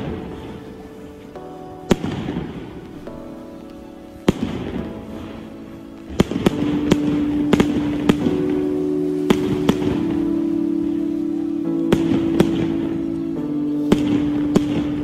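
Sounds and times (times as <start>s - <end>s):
fireworks bursting: 0.0s - 15.0s
fireworks crackling: 0.0s - 15.0s
music with long held notes: 0.0s - 15.0s.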